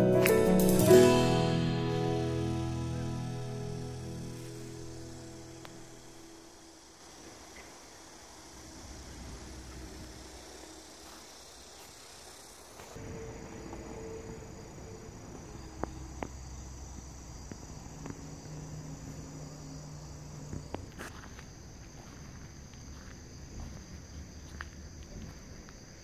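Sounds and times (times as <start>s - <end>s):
insects chirring: 0.2s - 26.0s.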